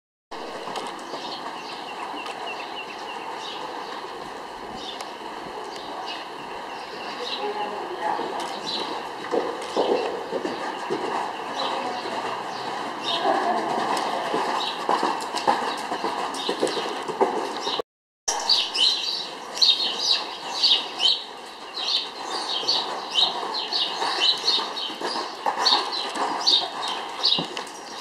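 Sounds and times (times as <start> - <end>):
horse hoofbeats on sand: 0.4 - 17.8, 18.4 - 28.0
small birds chirping: 0.7 - 28.0.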